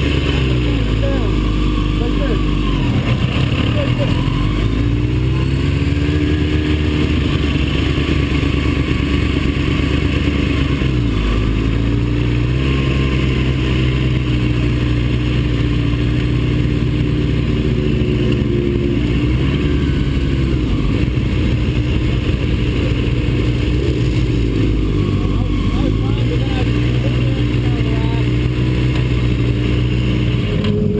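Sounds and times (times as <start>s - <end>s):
race car engine at speed: 0.0s - 30.9s.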